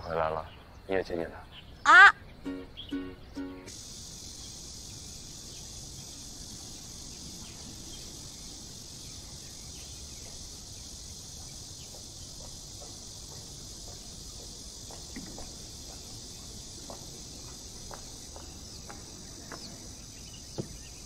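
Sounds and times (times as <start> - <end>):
high-pitched insect chorus: 2.8 - 21.0.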